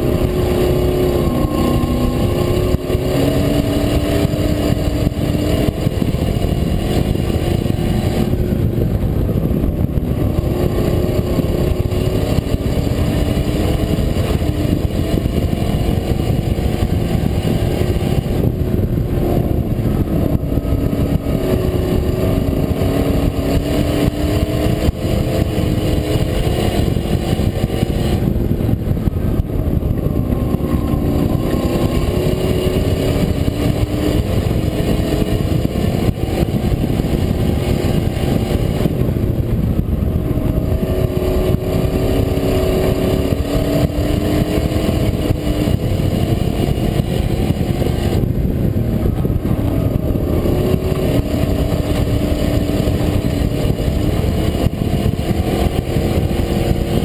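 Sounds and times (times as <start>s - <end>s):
racing truck engine revving: 0.0s - 57.0s.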